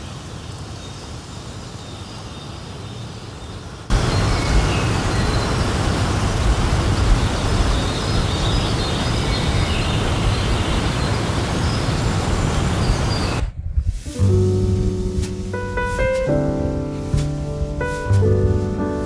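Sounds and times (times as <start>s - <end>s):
rumbling hissing outdoor ambience: 0.0s - 19.0s.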